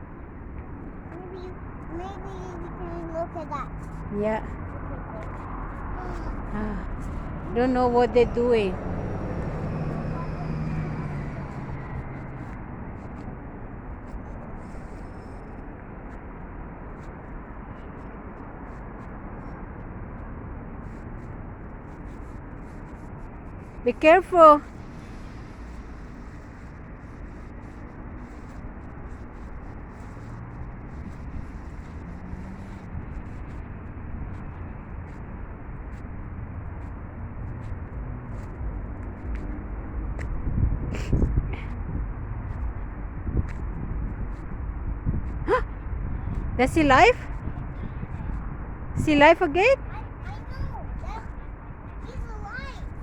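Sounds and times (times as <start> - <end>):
outdoor rumble and hiss: 0.0 - 53.0.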